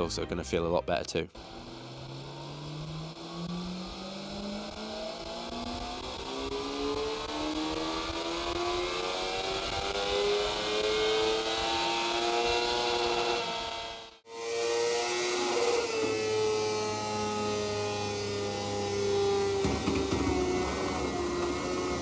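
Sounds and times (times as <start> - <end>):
motorcycle engine revving up: 1.4 - 22.0.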